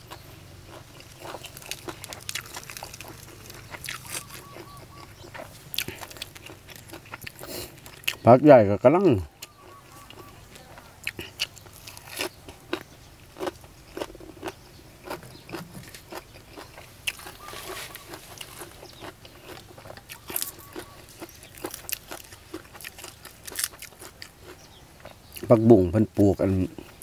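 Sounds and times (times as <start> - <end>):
crunchy biting and chewing: 0.0 - 8.3, 9.3 - 25.6.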